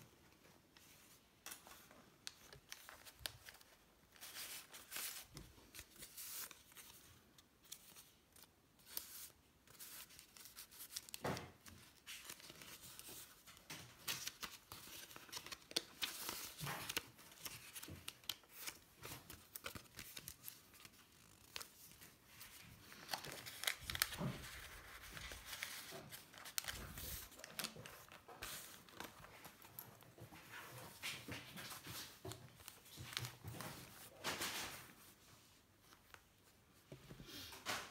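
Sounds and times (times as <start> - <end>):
paper rustling and crinkling: 0.7 - 37.9.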